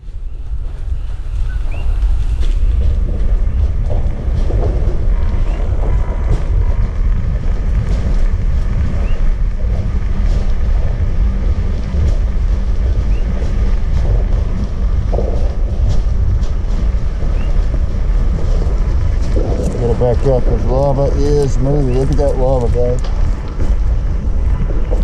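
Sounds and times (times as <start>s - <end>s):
low rumble of lava eruption: 0.0s - 25.0s
sharp crackles: 0.0s - 25.0s.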